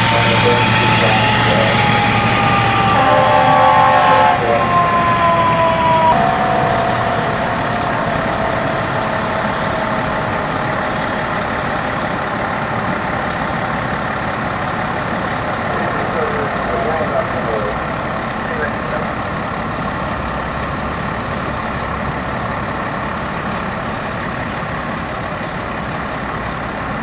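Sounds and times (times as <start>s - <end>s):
fire engine siren wail: 0.0s - 27.0s
steady loud noise: 0.0s - 27.0s.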